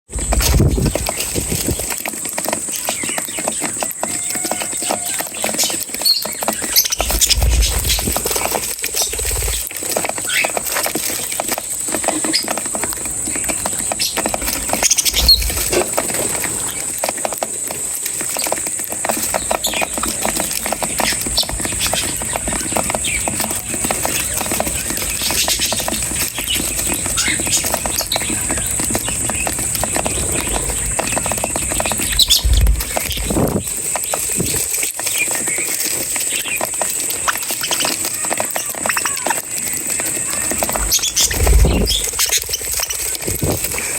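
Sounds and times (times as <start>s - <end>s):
small birds chirping: 0.1s - 43.9s
small clicks and scratches: 0.2s - 43.9s.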